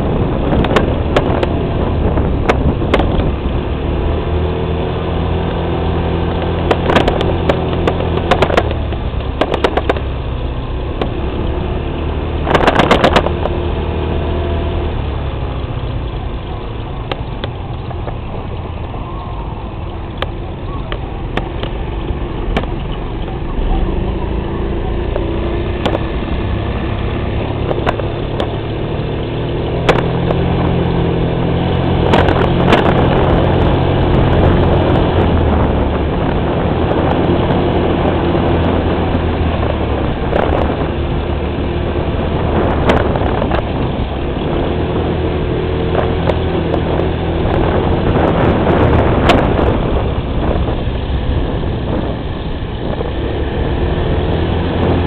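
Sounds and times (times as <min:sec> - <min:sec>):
vehicle engine droning: 0:00.0 - 0:55.0
wind noise on microphone: 0:00.0 - 0:55.0.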